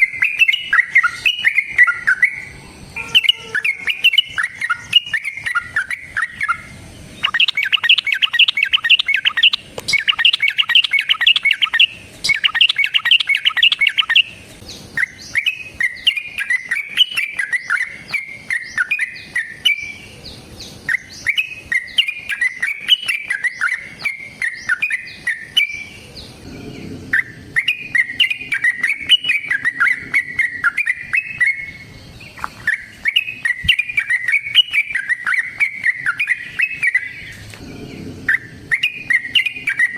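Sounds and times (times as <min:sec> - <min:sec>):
bird singing bubbling song: 0:00.0 - 0:39.9.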